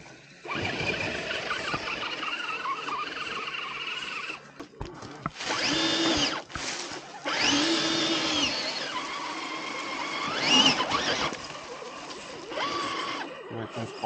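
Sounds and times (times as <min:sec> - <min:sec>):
electric motor whining: 0:00.4 - 0:14.0.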